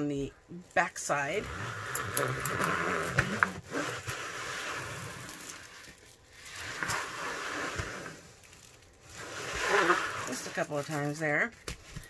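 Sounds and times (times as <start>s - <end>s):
plastic sleeve scraping on table edge: 1.4s - 11.2s.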